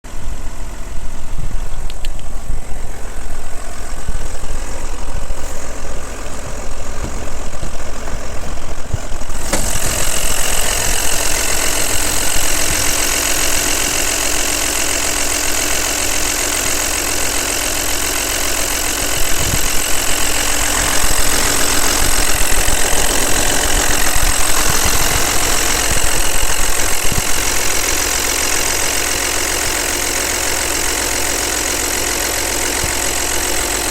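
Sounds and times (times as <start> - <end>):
car engine idling: 0.0 - 33.9
engine hiss and whine: 0.1 - 33.9.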